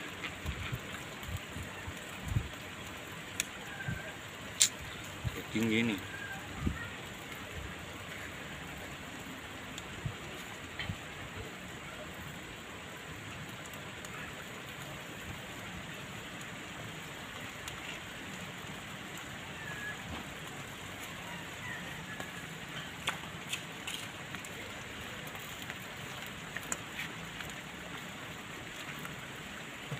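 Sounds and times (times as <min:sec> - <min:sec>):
fish sizzling on a grill: 0:00.0 - 0:29.9
small crackles: 0:00.0 - 0:29.9.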